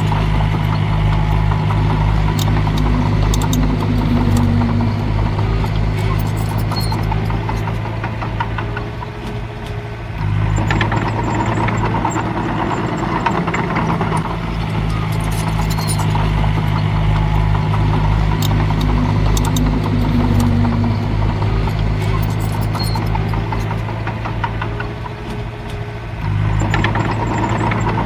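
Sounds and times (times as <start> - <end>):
metallic clanks and rattles: 0.0 - 9.8, 10.5 - 25.9
diesel earthmoving machinery running: 0.0 - 28.0.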